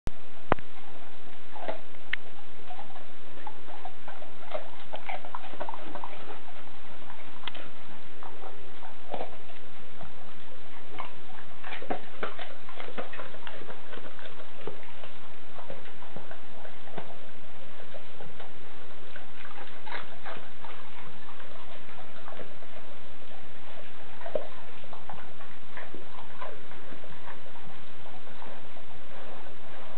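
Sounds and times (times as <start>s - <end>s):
dog chewing carrot crunches: 0.5s - 29.9s.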